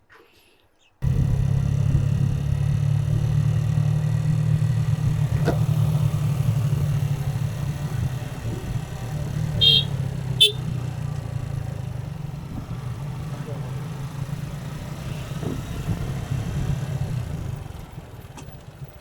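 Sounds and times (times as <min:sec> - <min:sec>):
motorcycle engine humming: 0:01.0 - 0:19.0.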